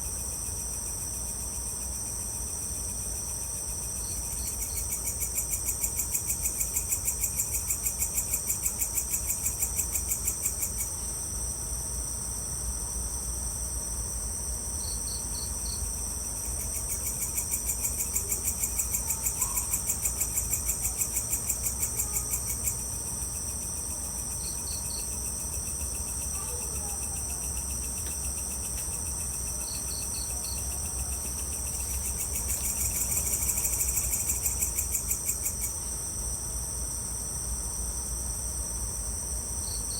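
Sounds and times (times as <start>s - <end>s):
insects steady shrill trill: 0.0s - 39.9s.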